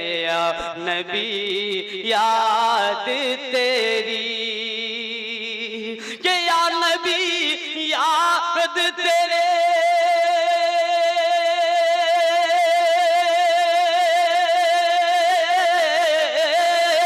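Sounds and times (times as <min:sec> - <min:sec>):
man singing a long note: 0:00.0 - 0:17.0.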